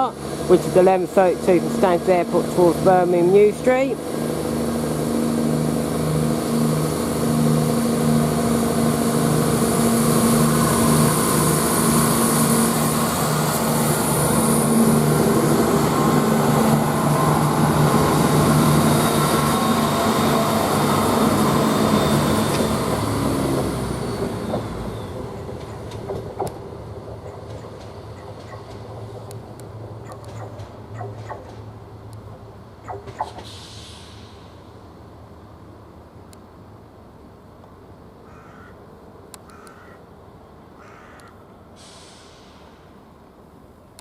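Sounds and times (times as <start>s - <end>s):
diesel train engines running: 0.0s - 38.0s.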